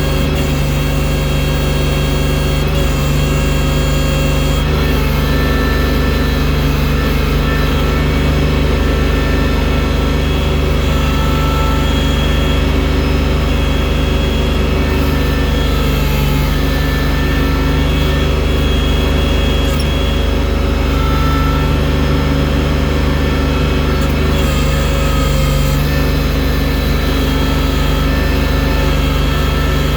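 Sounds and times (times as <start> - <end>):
loader engine running: 0.0 - 29.9.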